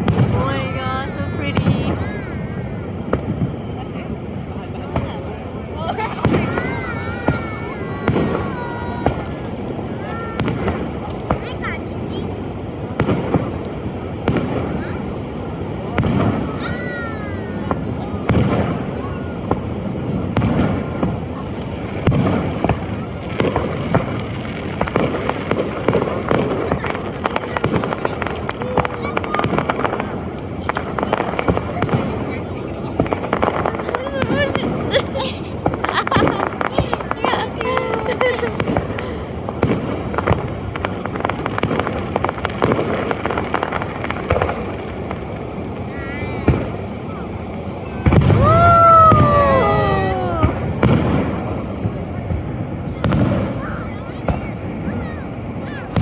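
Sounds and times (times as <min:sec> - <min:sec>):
fireworks bangs: 0:00.0 - 0:56.0
steady background noise: 0:00.0 - 0:56.0.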